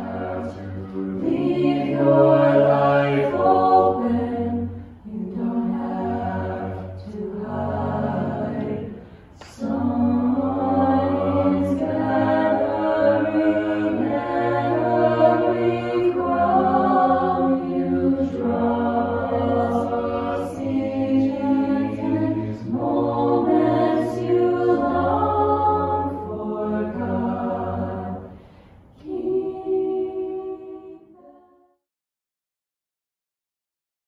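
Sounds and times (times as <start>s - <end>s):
a cappella group singing chords: 0.0s - 31.8s.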